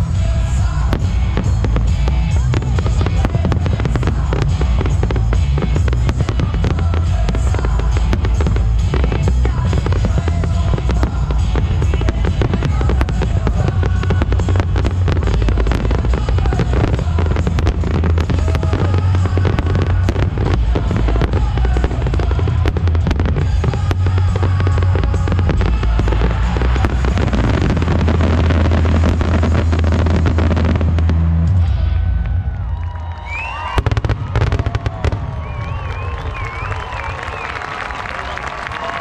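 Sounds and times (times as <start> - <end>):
loud music with low bass: 0.0 - 32.6
fireworks bangs and crackling: 0.0 - 39.0.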